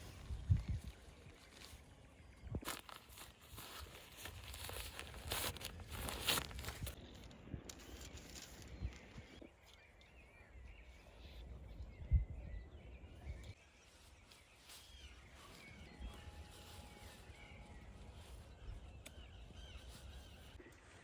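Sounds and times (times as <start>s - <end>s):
small birds chirping: 0.0s - 20.7s.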